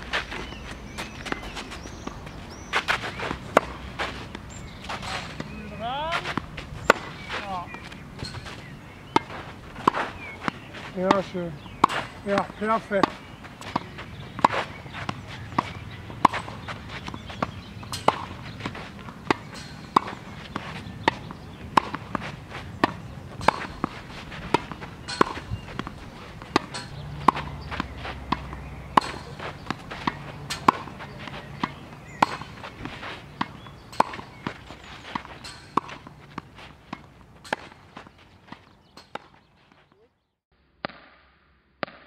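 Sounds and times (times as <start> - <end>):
racket hitting tennis ball: 0.0 - 40.0, 40.8 - 41.2, 41.8 - 42.0
tennis ball bouncing: 0.0 - 40.0, 41.8 - 42.0.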